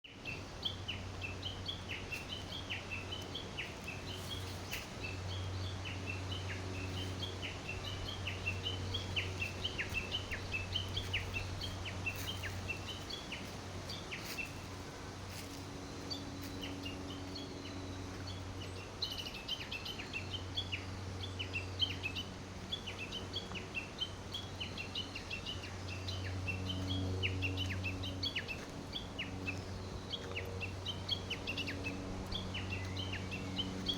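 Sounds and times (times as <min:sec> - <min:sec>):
small birds chirping: 0:00.1 - 0:33.9
steady low hum: 0:00.1 - 0:33.9.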